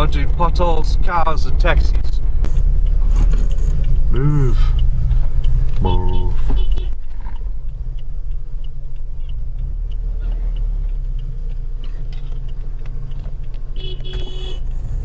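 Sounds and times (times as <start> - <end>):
car engine low rumble: 0.0 - 15.0
turn signal ticking: 0.0 - 15.0.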